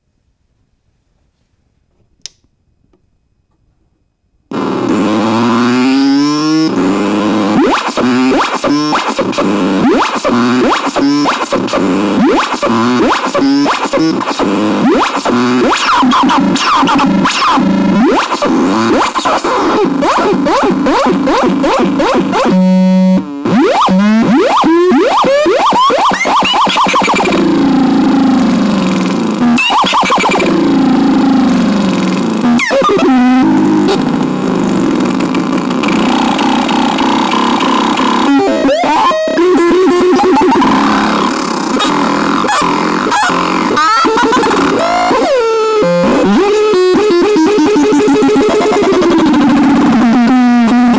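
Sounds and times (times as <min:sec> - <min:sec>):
synthesizer pitch sweeps and bleeps: 0:04.9 - 0:35.2, 0:35.8 - 0:50.9.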